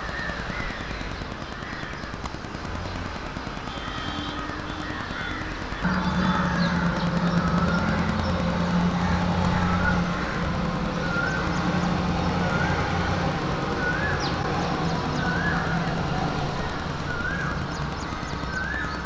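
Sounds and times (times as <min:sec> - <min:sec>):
distant traffic hum: 0:00.0 - 0:19.0
rising and falling bird call: 0:02.9 - 0:19.0.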